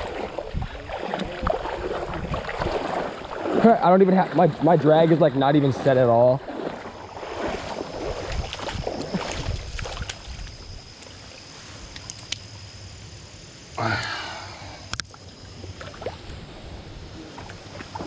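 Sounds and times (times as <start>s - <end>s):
water splashing and sloshing: 0.0s - 12.6s, 14.9s - 18.0s.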